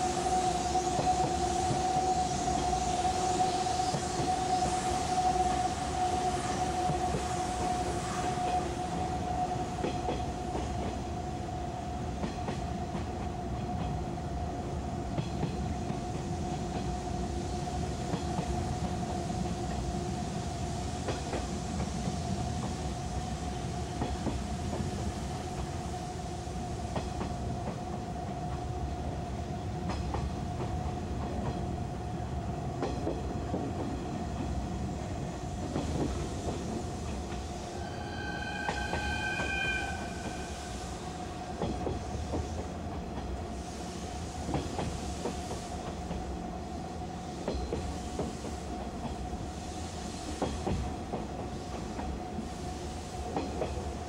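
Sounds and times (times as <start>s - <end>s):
train interior rumble: 0.0s - 54.0s.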